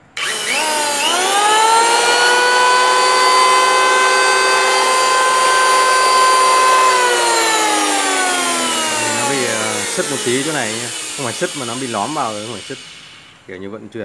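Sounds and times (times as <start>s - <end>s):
electric planer whining: 0.0s - 13.4s.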